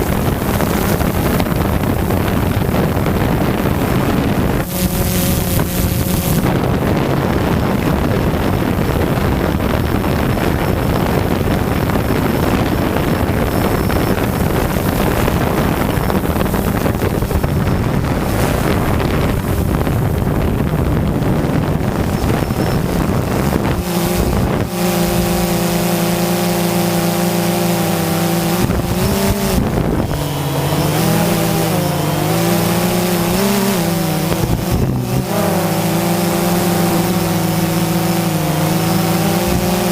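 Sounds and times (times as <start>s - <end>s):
drone motors humming: 0.0s - 39.9s
wind noise on microphone: 0.0s - 39.9s.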